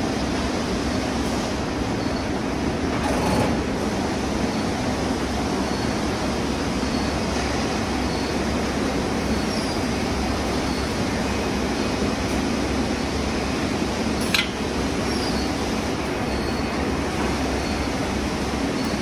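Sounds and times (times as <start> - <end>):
conveyor machinery hum and hiss: 0.0 - 19.0.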